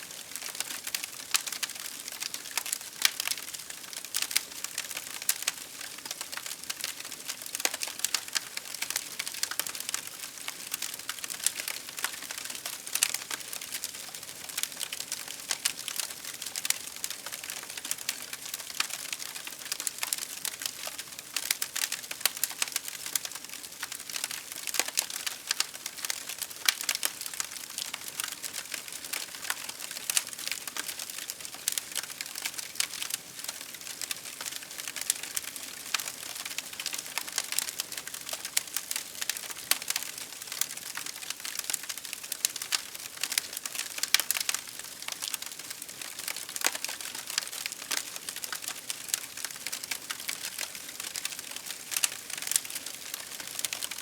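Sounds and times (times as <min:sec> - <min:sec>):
wood fire crackling: 0:00.2 - 0:54.0.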